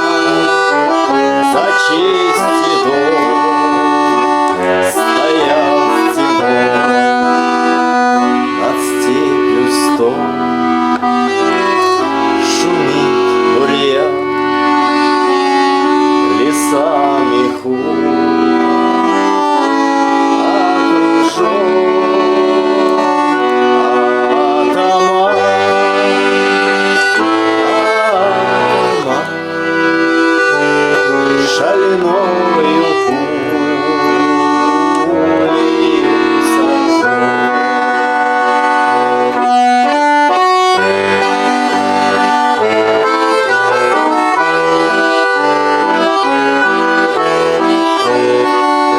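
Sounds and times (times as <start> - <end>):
button accordion playing: 0.0 - 48.9.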